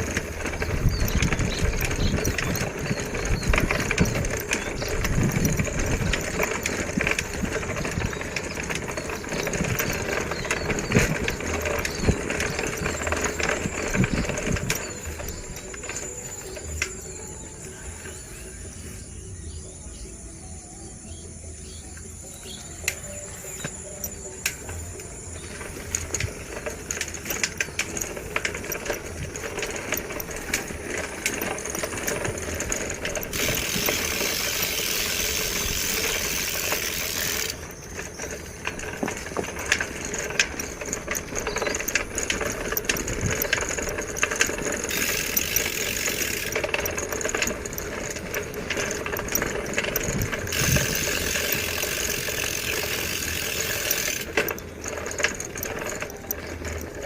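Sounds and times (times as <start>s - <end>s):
bicycle riding rumble: 0.0s - 57.0s
bike clicks and rattles: 0.0s - 57.0s.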